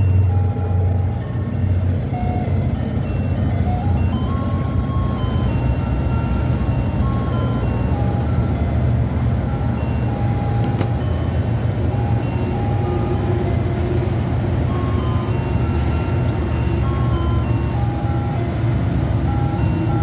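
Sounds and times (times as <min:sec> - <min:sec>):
ice cream truck jingle: 0:00.0 - 0:20.0.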